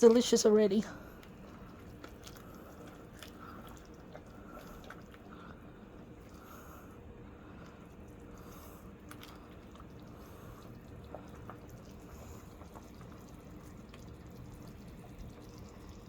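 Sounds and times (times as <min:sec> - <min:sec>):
steady low hum: 0:00.0 - 0:16.0
soup bubbling and popping: 0:01.0 - 0:16.0.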